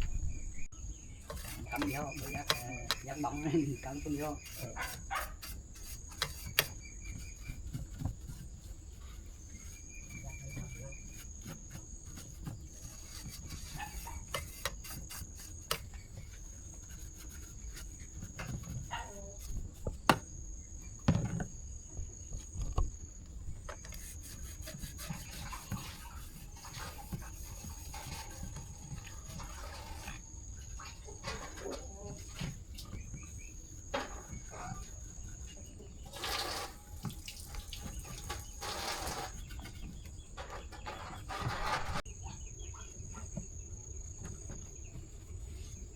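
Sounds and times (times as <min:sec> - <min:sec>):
crickets trilling: 0:00.0 - 0:45.9.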